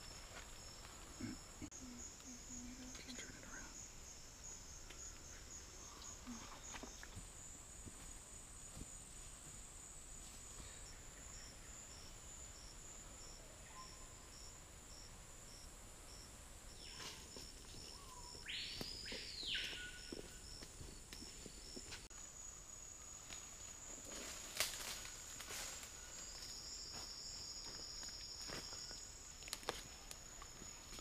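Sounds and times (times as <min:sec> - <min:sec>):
insect drone: 0:00.0 - 0:31.0
pulsing high insect chirp: 0:00.0 - 0:31.0
sweeping insect call: 0:00.0 - 0:31.0.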